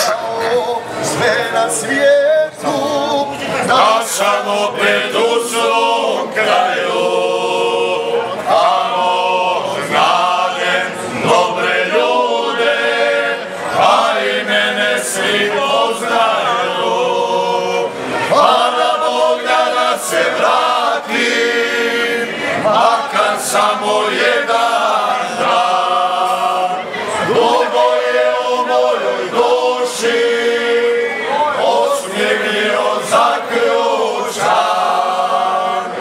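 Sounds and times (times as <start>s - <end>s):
men singing unaccompanied harmony: 0.0s - 36.0s.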